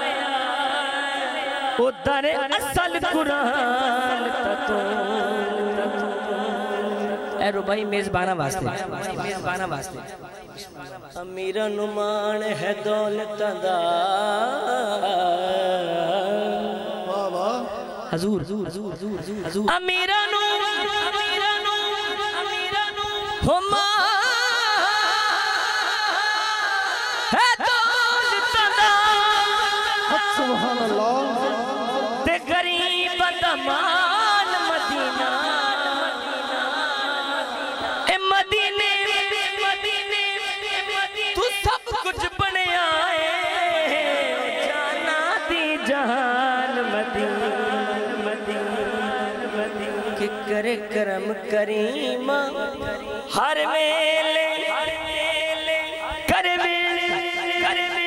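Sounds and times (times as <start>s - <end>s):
man singing into microphone: 0.0s - 58.0s.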